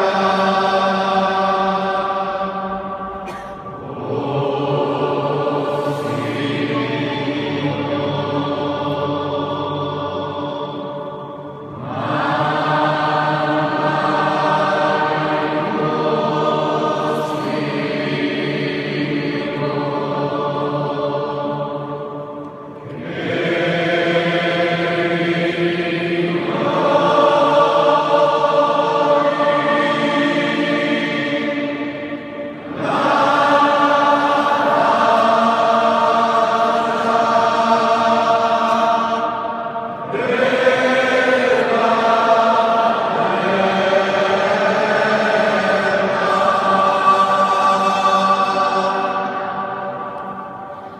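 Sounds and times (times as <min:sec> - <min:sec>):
choir singing a hymn: 0:00.0 - 0:50.9.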